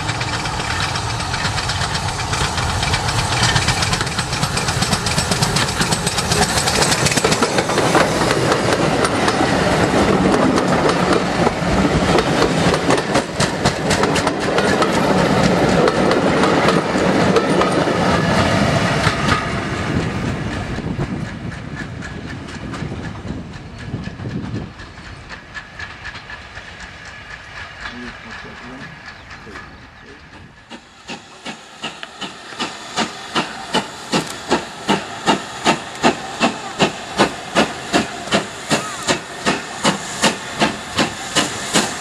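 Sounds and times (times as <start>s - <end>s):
train wheels clicking over rail joints: 0.0s - 42.0s.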